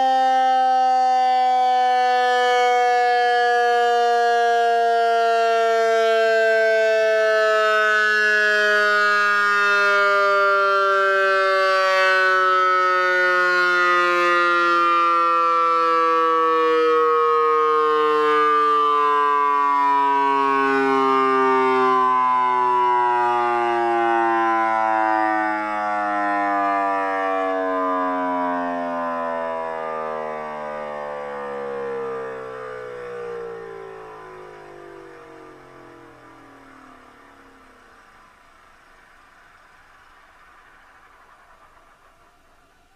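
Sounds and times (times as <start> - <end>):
electronic siren winding down: 0.0 - 42.9.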